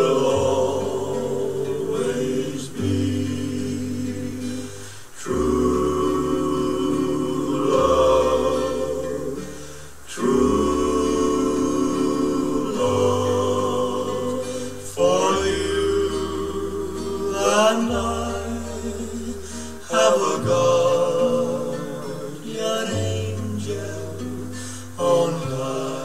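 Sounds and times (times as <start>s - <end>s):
man singing a slow ballad: 0.0s - 26.0s.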